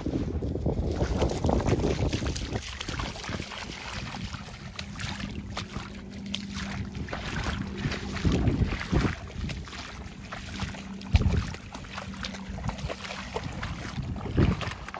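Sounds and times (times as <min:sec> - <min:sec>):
dog splashing through water: 0:00.0 - 0:14.9
wind buffeting microphone: 0:00.0 - 0:14.9.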